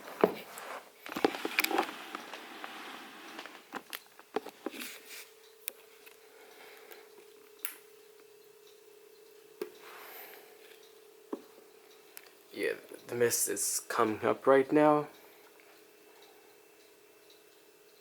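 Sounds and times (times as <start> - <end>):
faint humidifier hum: 0.0 - 18.0.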